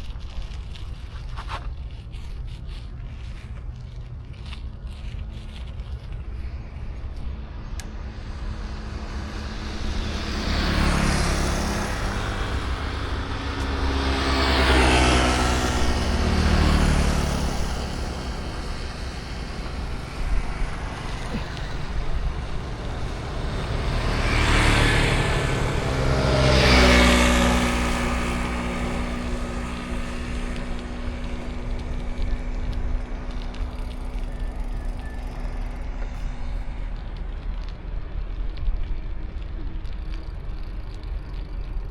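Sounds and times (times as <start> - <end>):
background traffic rumble: 0.0 - 41.9
motor vehicles passing close: 0.0 - 41.9.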